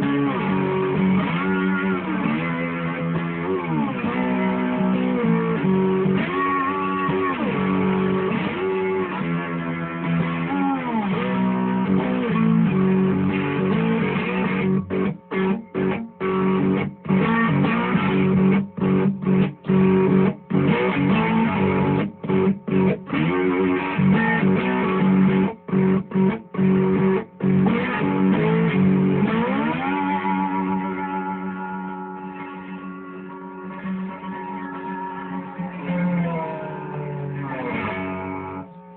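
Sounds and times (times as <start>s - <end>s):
slide guitar playing: 0.0s - 38.9s.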